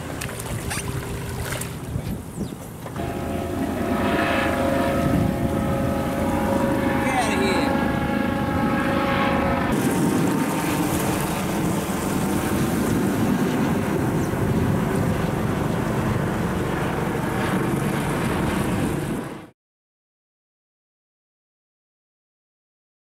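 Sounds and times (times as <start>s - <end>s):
water rushing: 0.0s - 19.2s
jet ski engines running: 0.0s - 19.4s
wind noise: 0.0s - 19.5s.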